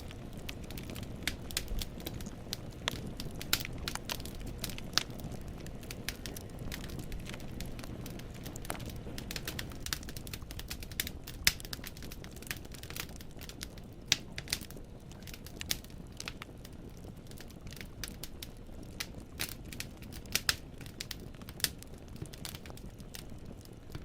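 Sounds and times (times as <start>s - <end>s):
burning logs popping and snapping: 0.0s - 24.0s
low rumble of flame: 0.0s - 24.0s.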